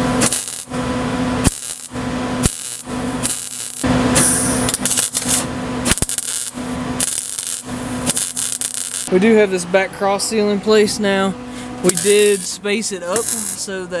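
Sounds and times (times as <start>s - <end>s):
welding arc crackling and hissing: 0.0s - 9.2s, 11.8s - 13.9s
welder humming: 0.0s - 14.0s.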